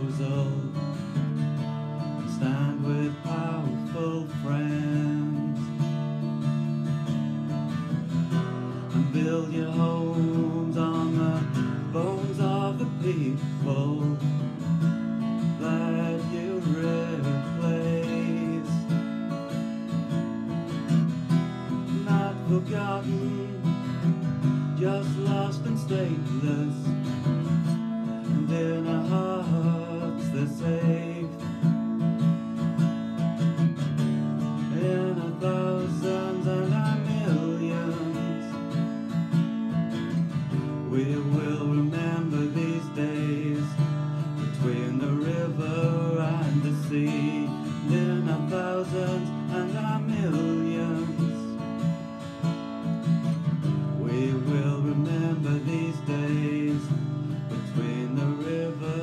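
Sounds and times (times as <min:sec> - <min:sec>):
man singing: 0:00.0 - 0:01.4, 0:02.0 - 0:06.0, 0:08.3 - 0:19.4, 0:21.7 - 0:32.0, 0:34.4 - 0:39.2, 0:40.2 - 0:51.8, 0:54.0 - 0:59.0
acoustic guitar strumming: 0:00.0 - 0:59.0.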